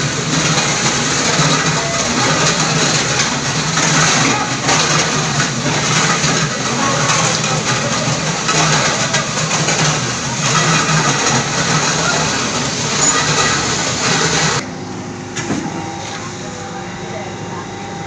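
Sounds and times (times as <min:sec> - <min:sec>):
loud mechanical drone: 0:00.0 - 0:18.0.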